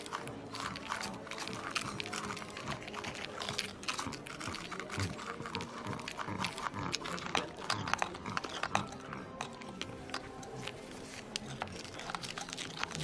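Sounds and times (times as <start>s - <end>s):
shell crunching in mouth: 0.0s - 13.0s
wet mouth noises: 0.0s - 13.0s.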